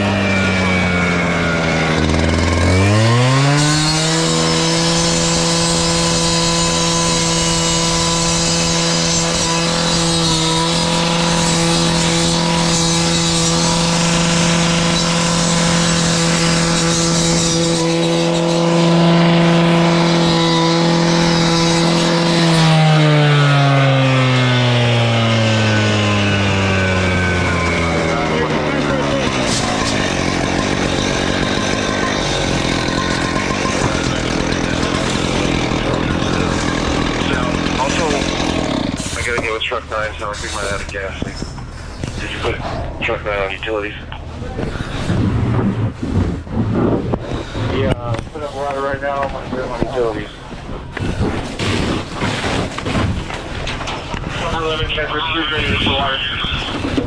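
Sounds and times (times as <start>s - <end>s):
fire engine revving: 0.0s - 57.0s.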